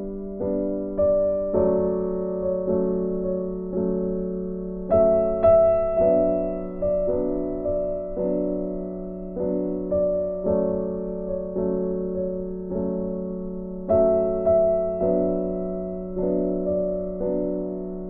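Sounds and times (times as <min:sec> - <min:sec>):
gentle piano tune: 0:00.0 - 0:18.0.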